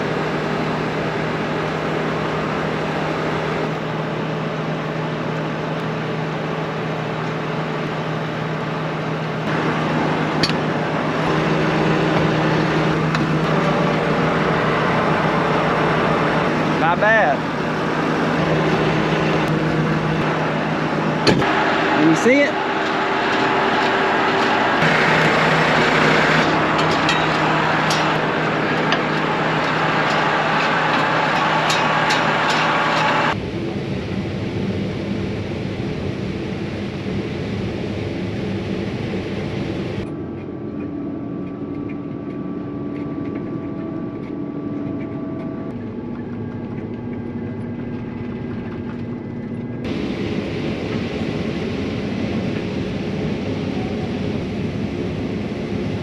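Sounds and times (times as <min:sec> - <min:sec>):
combine harvester engine drone: 0:00.0 - 0:56.0.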